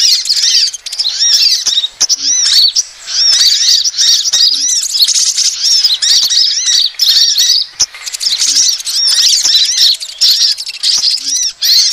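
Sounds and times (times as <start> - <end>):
high-pitched twittering bird chirps: 0.0 - 11.9.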